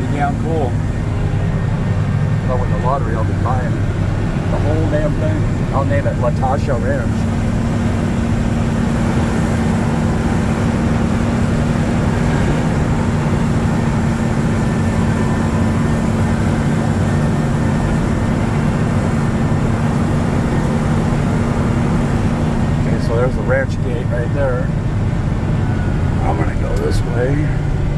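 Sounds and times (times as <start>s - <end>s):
road and tyre noise: 0.0s - 27.9s
truck engine running: 0.0s - 27.9s.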